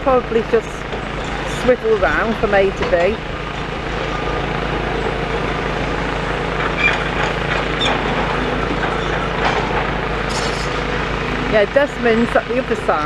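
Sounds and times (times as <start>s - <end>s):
excavator diesel engines: 0.0s - 13.0s.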